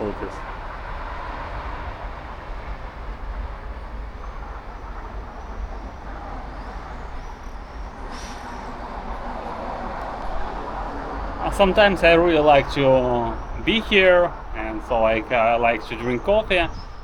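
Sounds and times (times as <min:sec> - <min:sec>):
distant traffic rumble: 0:00.0 - 0:17.0
wind noise on microphone: 0:00.0 - 0:17.0.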